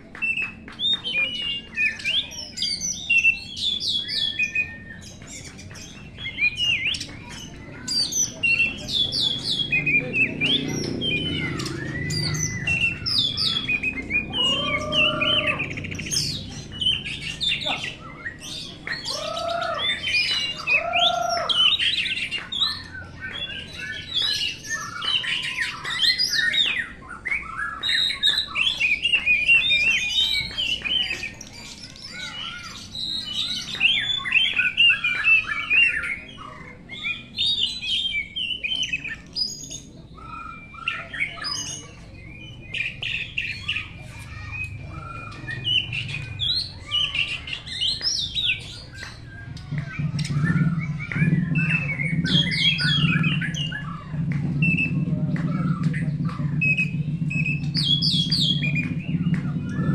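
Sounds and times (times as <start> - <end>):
bird song chirps and trills: 0.0 - 59.9.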